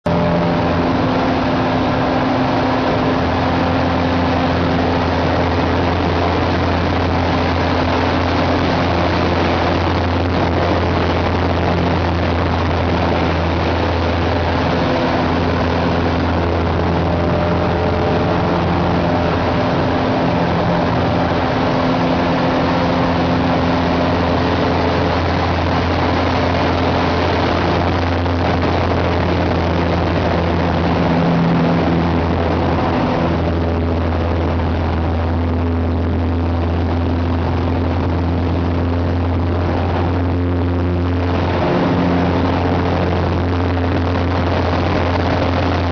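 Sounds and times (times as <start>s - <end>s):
propeller aircraft engine droning: 0.0s - 45.9s.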